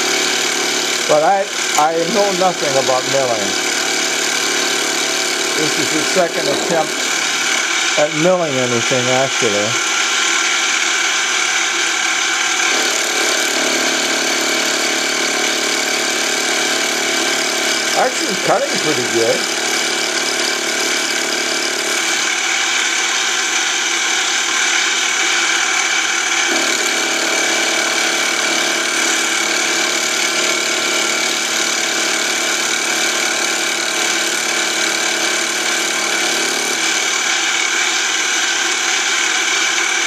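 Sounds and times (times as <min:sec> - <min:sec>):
lathe motor and gear whine: 0:00.0 - 0:40.0.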